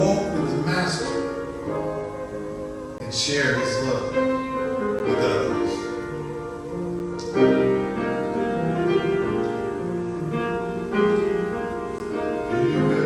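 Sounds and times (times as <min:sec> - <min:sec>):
keyboard playing slow chords: 0:00.0 - 0:13.0.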